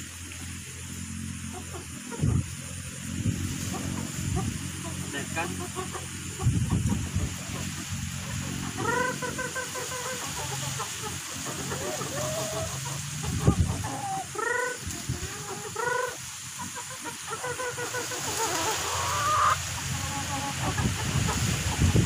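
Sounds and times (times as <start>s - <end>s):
chickens clucking: 0.0s - 22.0s
chicken squawk: 3.5s - 22.0s.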